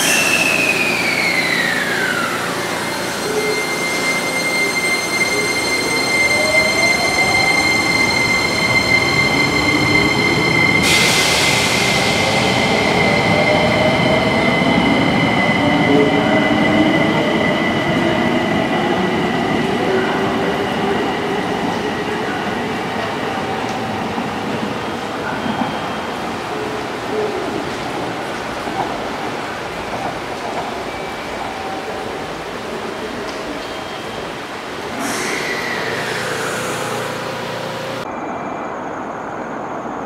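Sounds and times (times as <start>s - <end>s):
wheels squealing on rails: 0.0s - 38.1s.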